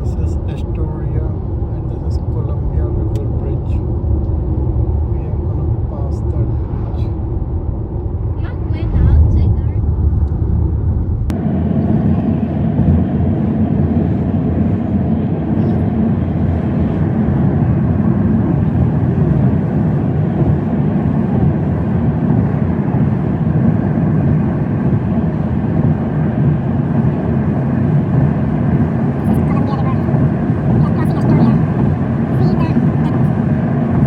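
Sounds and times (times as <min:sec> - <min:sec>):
car driving road noise: 0:00.0 - 0:34.0.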